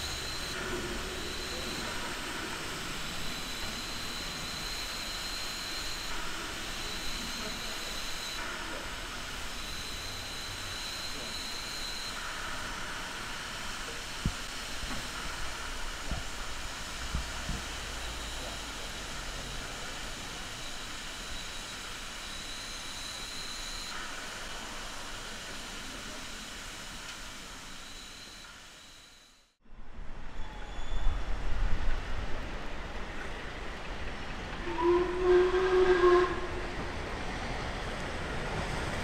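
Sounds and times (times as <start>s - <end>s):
steam hissing from locomotive: 0.0s - 29.2s, 30.2s - 39.0s.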